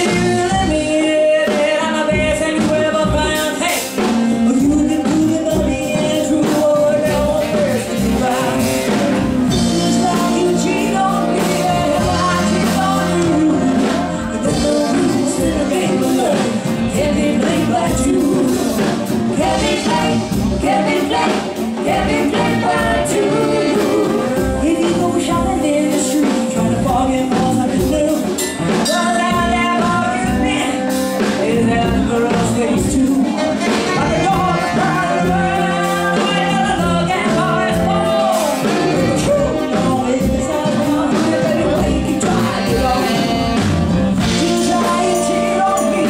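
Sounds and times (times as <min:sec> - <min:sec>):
live rock-pop band: 0:00.0 - 0:46.0
woman singing: 0:00.0 - 0:46.0.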